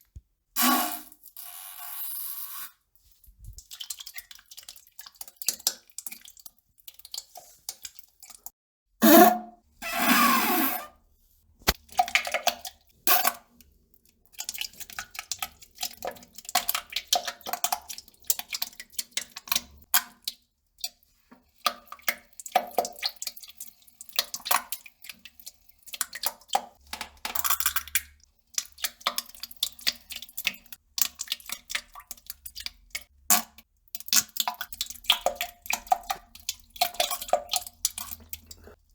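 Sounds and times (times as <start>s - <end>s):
wet clicks crackles and drips: 3.4s - 8.5s, 11.6s - 38.9s.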